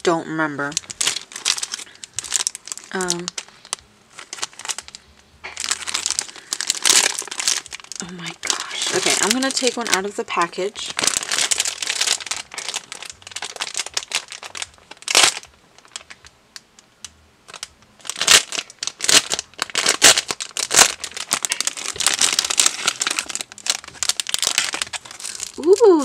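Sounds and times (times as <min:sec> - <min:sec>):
plastic packaging crinkling: 0:00.0 - 0:16.9, 0:17.5 - 0:26.0.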